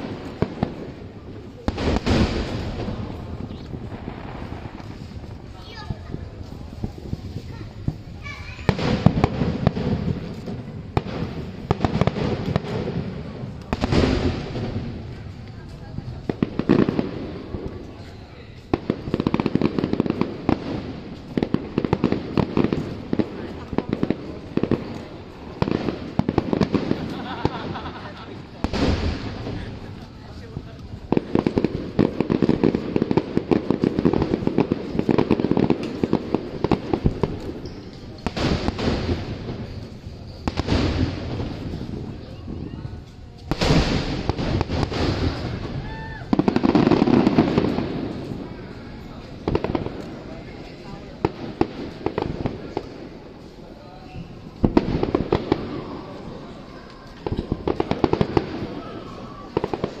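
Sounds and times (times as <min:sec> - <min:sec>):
background noise: 0:00.0 - 1:00.0
fireworks bangs and crackles: 0:00.0 - 1:00.0
fireworks bursts with hissing crackle: 0:00.0 - 1:00.0.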